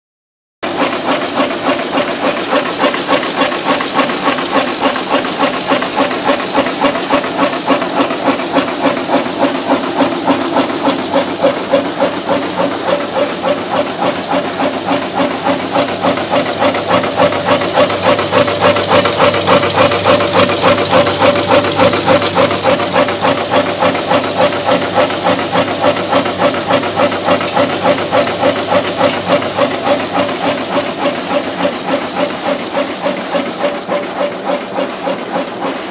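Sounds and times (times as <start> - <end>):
machine clattering strokes: 0.6 - 35.9
machine hum and hiss: 0.7 - 35.9.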